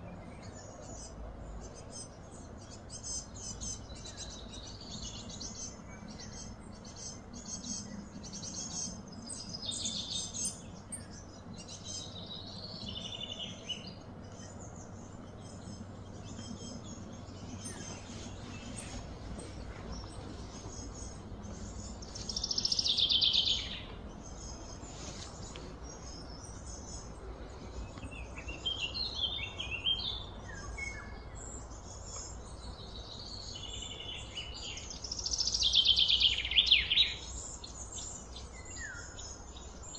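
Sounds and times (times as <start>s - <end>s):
faint low hum: 0.0s - 36.6s
birds chirping: 0.0s - 39.9s.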